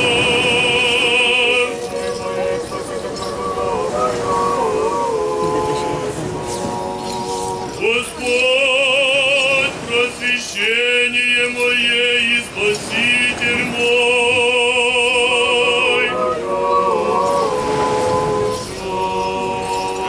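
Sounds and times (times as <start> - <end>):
liturgical choral singing: 0.0 - 20.0.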